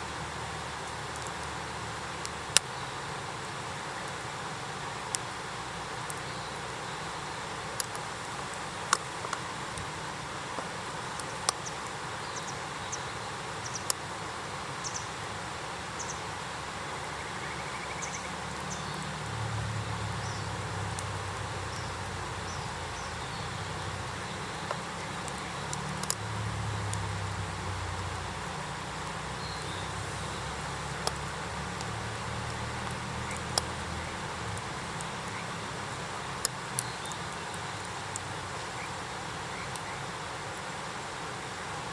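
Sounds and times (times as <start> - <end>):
campfire burning: 0.0 - 41.9.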